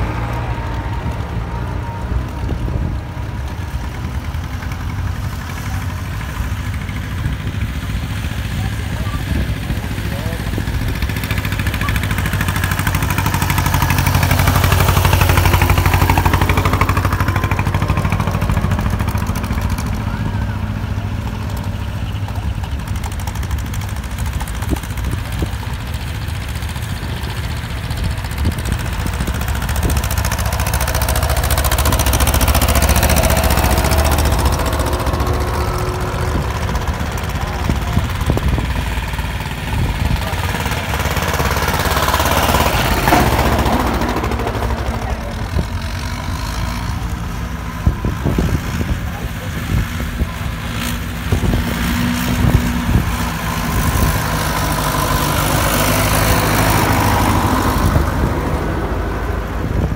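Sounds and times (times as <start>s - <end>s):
old tractor engines driving past: 0.0s - 59.9s.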